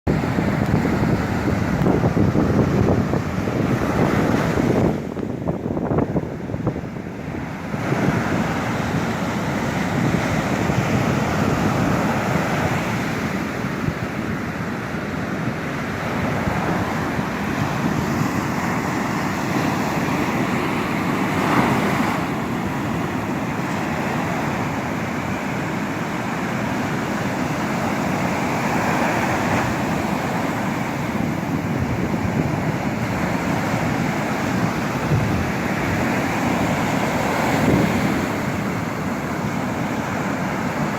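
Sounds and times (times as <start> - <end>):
ocean surf breaking: 0.1 - 40.9
wind on microphone: 0.1 - 40.9.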